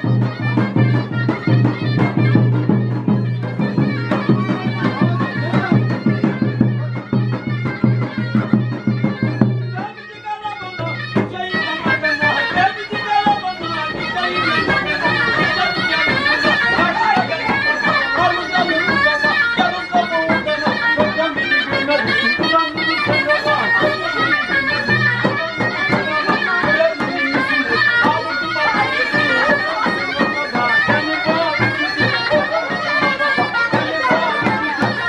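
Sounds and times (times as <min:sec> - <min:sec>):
reedy wind instrument melody: 0:00.0 - 0:35.0.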